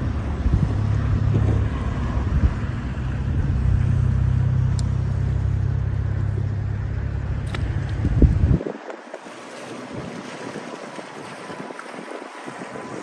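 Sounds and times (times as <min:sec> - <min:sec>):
wind buffeting microphone: 0:00.0 - 0:05.0, 0:07.1 - 0:13.0
motor boat engine rumbling: 0:00.0 - 0:13.0.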